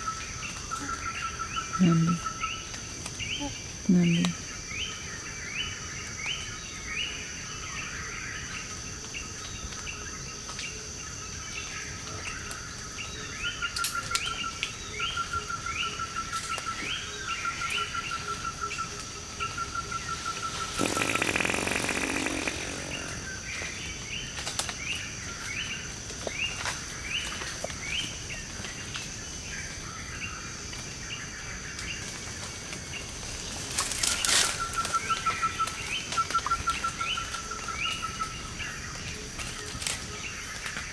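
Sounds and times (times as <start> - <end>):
high insect whine: 0.0 - 40.9.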